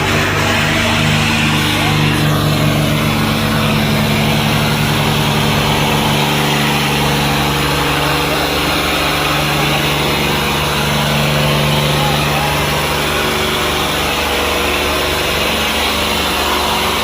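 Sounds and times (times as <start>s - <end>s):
diesel tractor engine straining: 0.0s - 17.0s.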